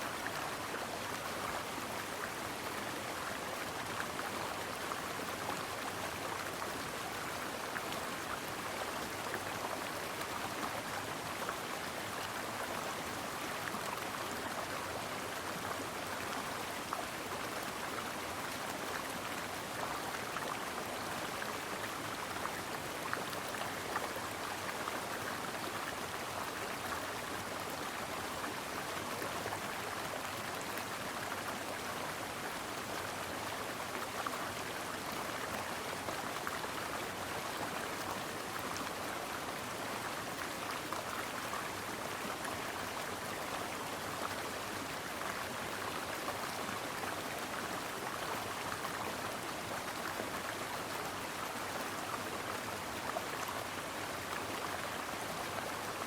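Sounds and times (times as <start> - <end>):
brook water flowing: 0.0 - 56.0.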